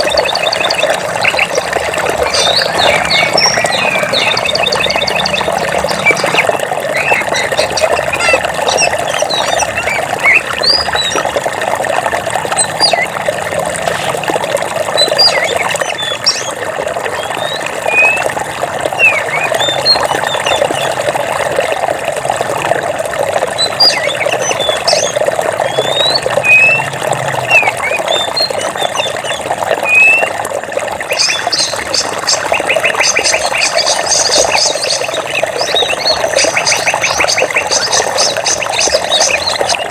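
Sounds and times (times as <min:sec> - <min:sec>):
birds chirping: 0:00.0 - 0:11.4, 0:12.4 - 0:14.2, 0:14.8 - 0:21.0, 0:23.5 - 0:30.4, 0:31.0 - 0:39.9
running water flowing: 0:00.0 - 0:39.9.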